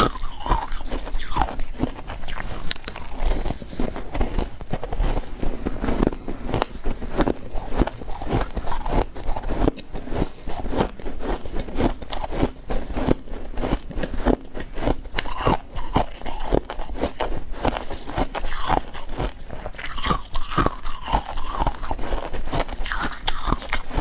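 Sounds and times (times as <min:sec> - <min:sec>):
crunching and chewing frost: 0:00.0 - 0:24.0.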